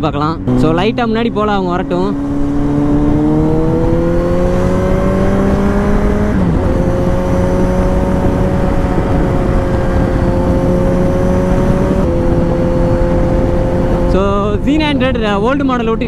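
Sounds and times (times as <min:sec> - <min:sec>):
motorcycle engine at speed: 0:00.0 - 0:16.0
wind rush: 0:00.0 - 0:16.0.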